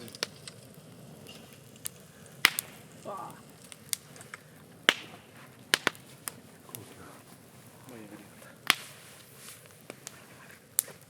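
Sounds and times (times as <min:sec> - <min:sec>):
bonfire crackling: 0:00.0 - 0:11.0
fire sharp pops: 0:00.0 - 0:11.0.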